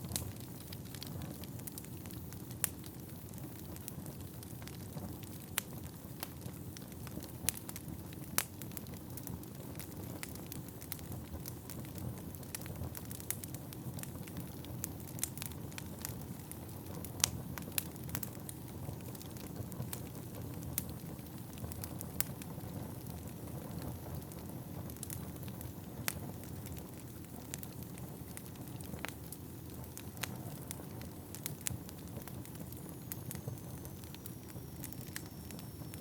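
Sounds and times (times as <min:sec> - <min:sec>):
burning logs crackling: 0:00.0 - 0:36.0
low rumble of flames: 0:00.0 - 0:36.0.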